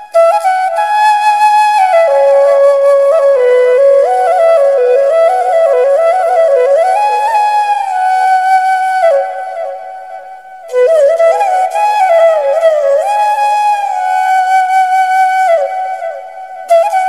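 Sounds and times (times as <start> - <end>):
flute melody: 0.0 - 17.0.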